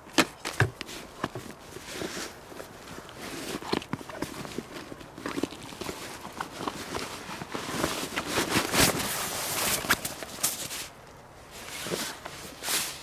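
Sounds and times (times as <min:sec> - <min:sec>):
nylon fabric rustling: 0:00.9 - 0:13.0.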